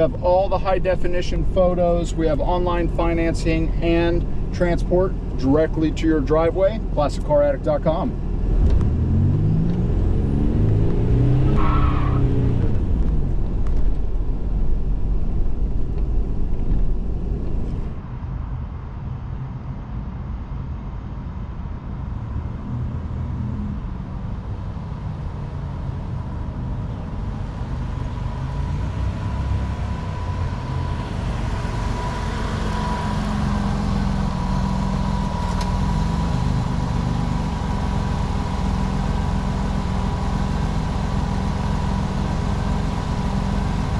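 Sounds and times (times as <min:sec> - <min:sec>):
car engine accelerating: 0:00.0 - 0:18.1, 0:22.0 - 0:43.9
high turbo whine: 0:00.0 - 0:43.9.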